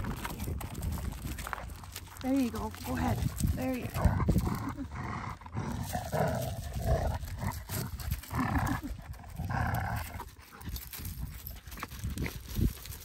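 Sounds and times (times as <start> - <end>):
dogs growling in play: 1.4 - 12.4.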